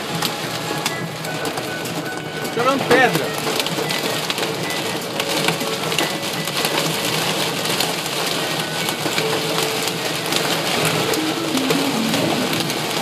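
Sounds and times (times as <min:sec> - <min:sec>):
hailstones ticking on car: 0:00.0 - 0:10.8
rain on car roof: 0:00.0 - 0:11.2.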